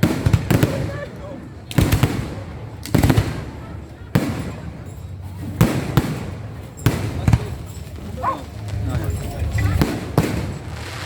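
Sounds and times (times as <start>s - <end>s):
fireworks bangs: 0.0s - 11.0s
rolling echo: 0.0s - 11.0s.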